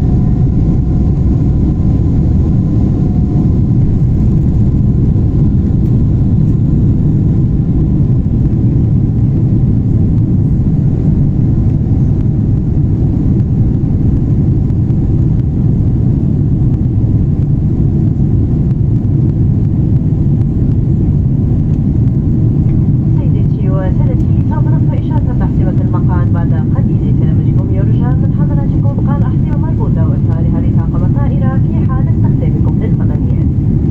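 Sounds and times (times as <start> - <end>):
jet engine rumble inside cabin: 0.0 - 33.9.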